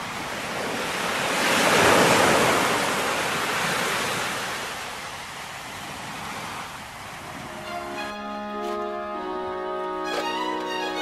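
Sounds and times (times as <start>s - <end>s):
waves breaking: 0.0s - 11.0s.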